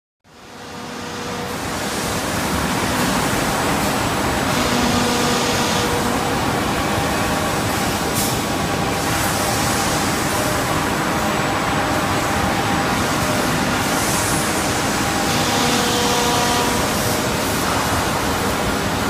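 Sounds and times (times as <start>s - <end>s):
loud machine noise: 0.3s - 19.0s.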